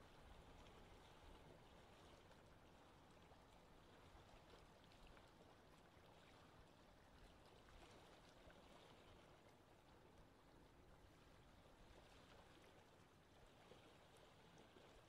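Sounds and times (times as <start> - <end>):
small waves lapping shore: 0.0 - 15.0.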